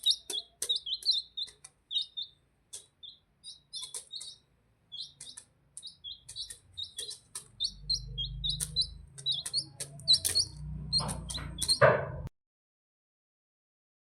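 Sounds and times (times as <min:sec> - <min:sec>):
turkeys chirping: 0:00.0 - 0:12.0.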